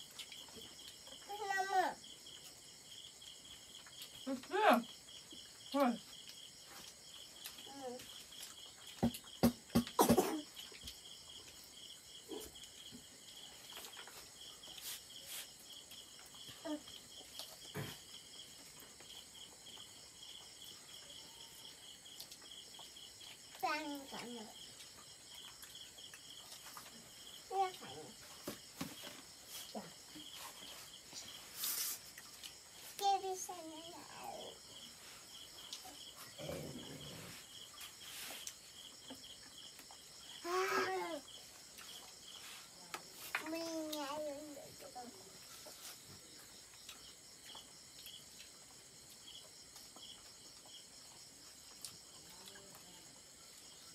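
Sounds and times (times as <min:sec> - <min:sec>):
crickets chirping: 0:00.0 - 0:53.9
night insects trilling: 0:00.0 - 0:53.9.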